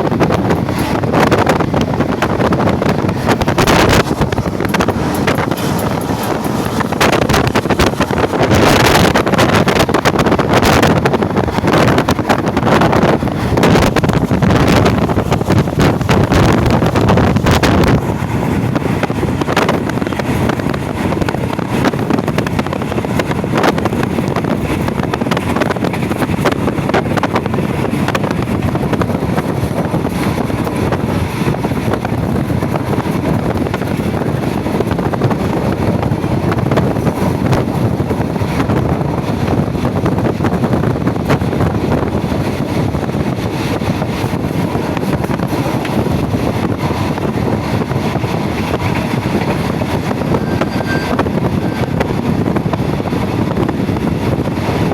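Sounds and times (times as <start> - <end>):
train wheels rumbling on rails: 0.0 - 54.9
wind noise: 0.0 - 54.9.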